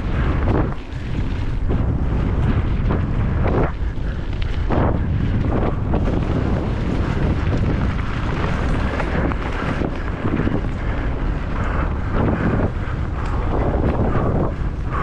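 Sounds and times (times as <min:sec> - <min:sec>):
bike rumble: 0:00.0 - 0:15.0
wind rushing over microphone: 0:00.0 - 0:15.0.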